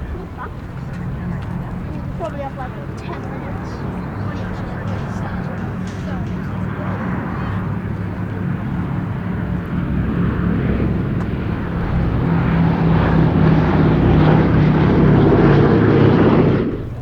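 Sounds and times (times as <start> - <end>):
propeller aircraft engines running: 0.0 - 17.0.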